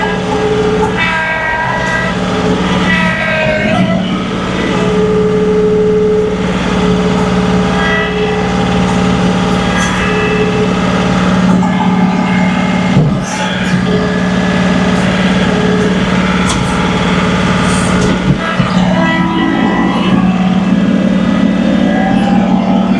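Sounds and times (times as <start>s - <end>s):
high whining tones: 0.0s - 22.9s
tractor diesel engine under load: 0.0s - 22.9s.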